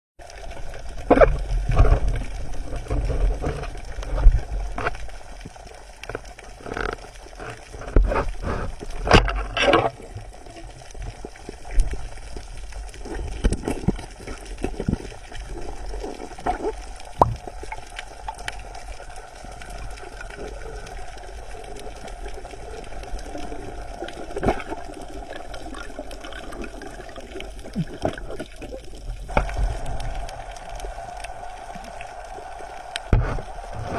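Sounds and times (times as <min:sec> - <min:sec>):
water sloshing and gurgling: 0:00.2 - 0:33.9.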